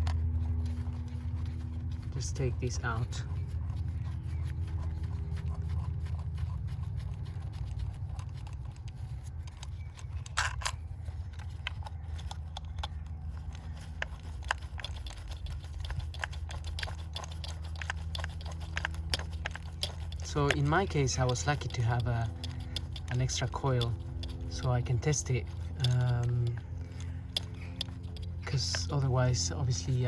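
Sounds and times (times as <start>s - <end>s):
plastic and metal clicks and scrapes: 0.0s - 30.0s
steady low hum: 0.0s - 30.0s.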